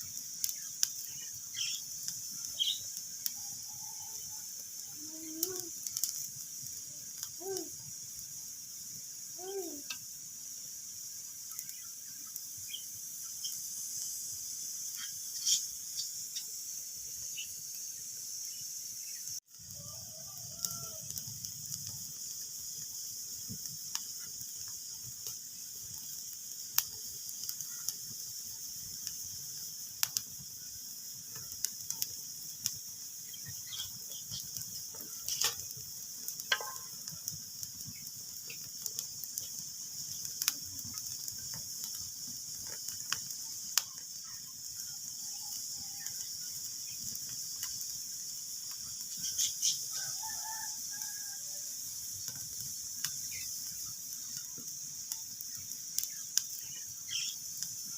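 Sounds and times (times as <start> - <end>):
wood fire crackling and popping: 0.0 - 17.5, 19.2 - 57.9.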